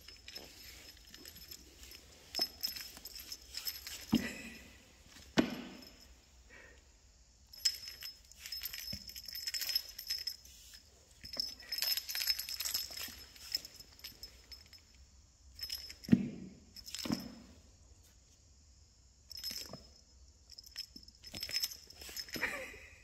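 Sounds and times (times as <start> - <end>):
small bell jingling: 0.0 - 6.3, 7.4 - 17.6, 19.3 - 23.0.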